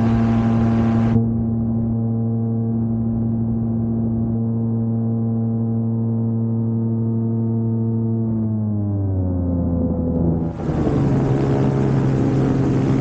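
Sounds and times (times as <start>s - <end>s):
gyroplane engine droning: 0.0s - 13.0s.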